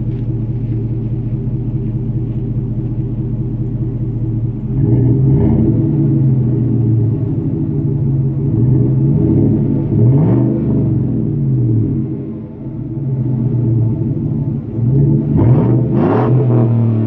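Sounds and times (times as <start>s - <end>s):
deep exhaust rumble: 0.0s - 17.0s.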